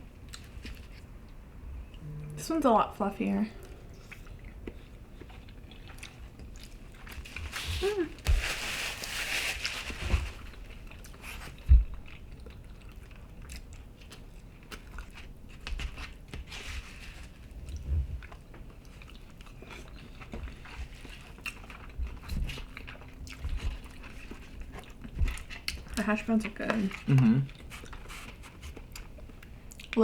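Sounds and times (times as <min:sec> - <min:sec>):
people chewing food: 0:00.0 - 0:02.4, 0:03.6 - 0:08.5, 0:10.2 - 0:30.0.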